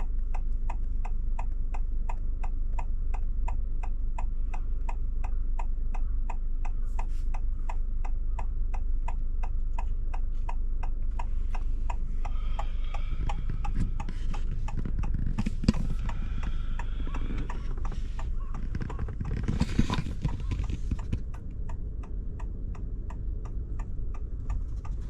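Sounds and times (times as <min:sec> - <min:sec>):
low cabin hum: 0:00.0 - 0:25.0
turn signal ticking: 0:00.0 - 0:25.0.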